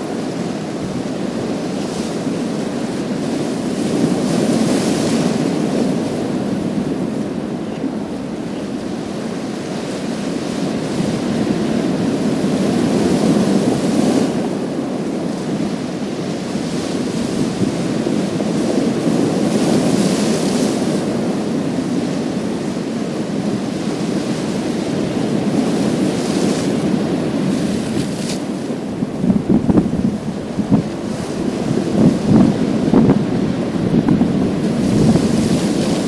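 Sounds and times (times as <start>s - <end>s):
waves washing over pebbles: 0.0s - 36.0s.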